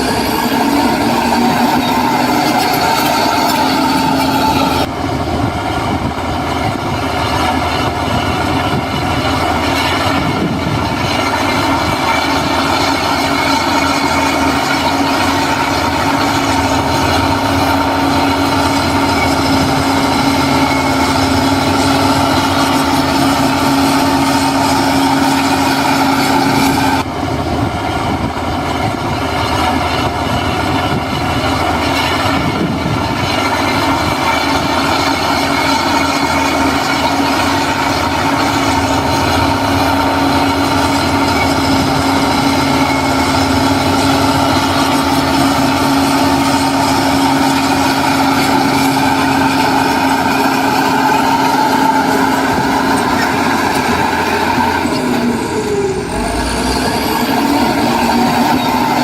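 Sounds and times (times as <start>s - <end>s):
diesel machinery engine whining: 0.0s - 59.0s.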